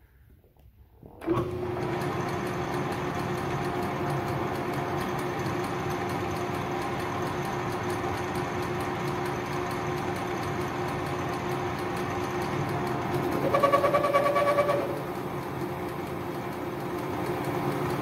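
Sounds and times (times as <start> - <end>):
lathe motor humming: 1.2 - 18.0.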